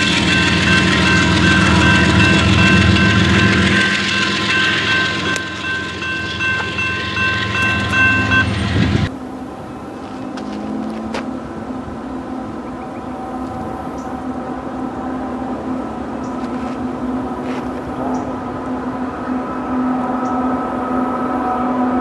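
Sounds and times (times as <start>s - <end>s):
steady high-pitched tones: 0.0s - 10.2s, 11.3s - 22.0s
train rolling past: 0.0s - 22.0s.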